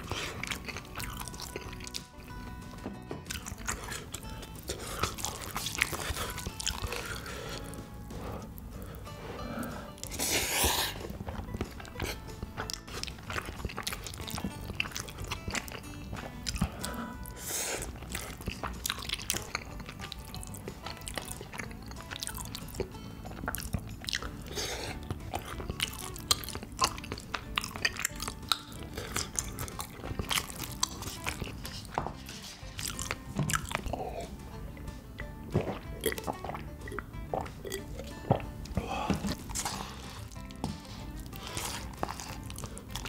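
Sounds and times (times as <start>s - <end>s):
soft background music: 0.0s - 43.0s
wet chewing and lip-smacking: 0.0s - 43.0s.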